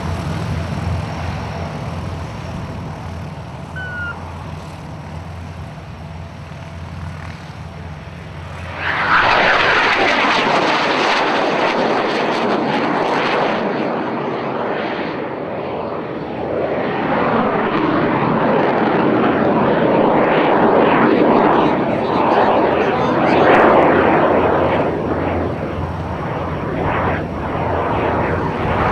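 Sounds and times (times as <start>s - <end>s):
jet flying past roaring: 0.0s - 28.9s.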